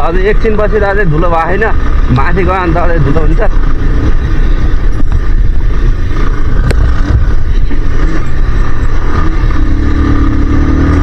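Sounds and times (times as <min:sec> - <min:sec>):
motorcycle engine rumble: 0:00.0 - 0:11.0.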